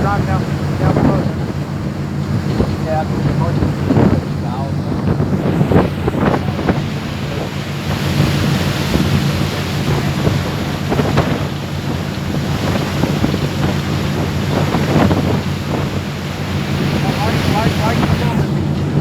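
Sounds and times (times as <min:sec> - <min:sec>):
boat engine droning: 0:00.0 - 0:19.0
wind blowing across microphone: 0:00.0 - 0:19.0.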